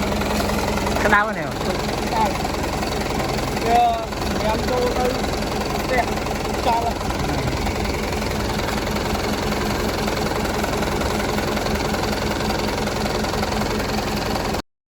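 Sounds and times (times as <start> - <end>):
tractor diesel engine humming: 0.0 - 14.6.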